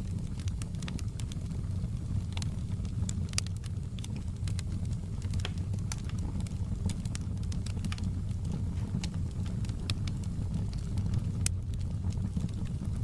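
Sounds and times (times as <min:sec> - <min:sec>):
burning wood crackling and popping: 0:00.0 - 0:13.0
campfire flame rumble: 0:00.0 - 0:13.0.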